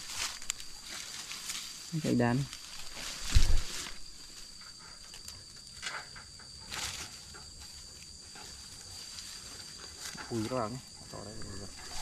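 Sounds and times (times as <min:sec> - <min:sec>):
brush crackling: 0:00.0 - 0:12.0
high-pitched insect trill: 0:00.0 - 0:12.0.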